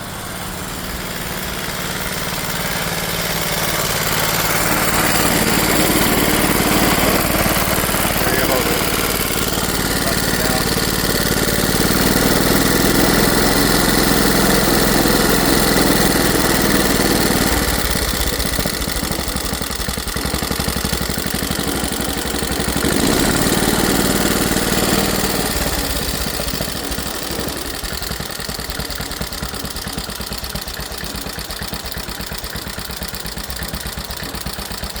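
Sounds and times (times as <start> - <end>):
washing-machine engine running: 0.0 - 35.0.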